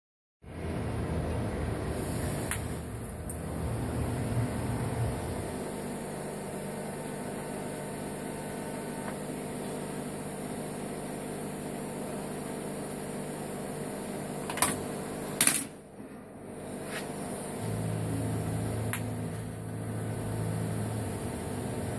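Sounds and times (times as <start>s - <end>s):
welding machine electrical hum: 0.4s - 21.9s.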